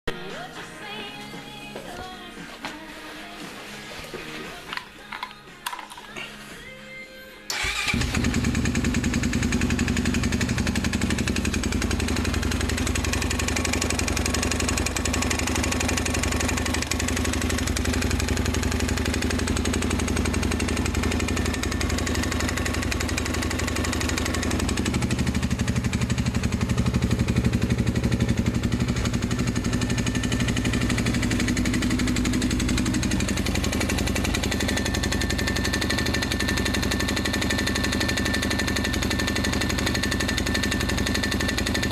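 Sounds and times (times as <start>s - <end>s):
quad engine running: 7.5s - 41.9s.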